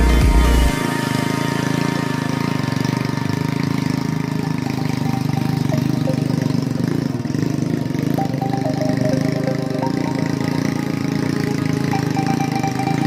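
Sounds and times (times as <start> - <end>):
motorbike engine at low revs: 0.0 - 13.0.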